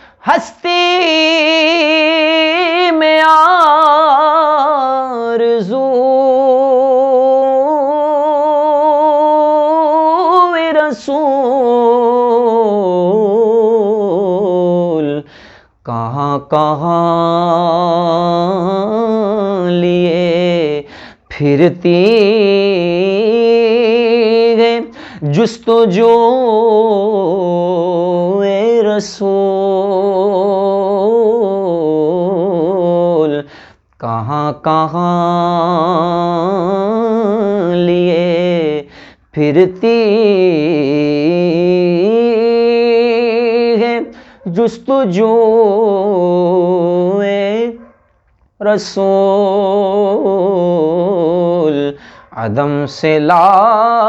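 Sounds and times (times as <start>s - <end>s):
man singing unaccompanied: 0.0s - 54.0s.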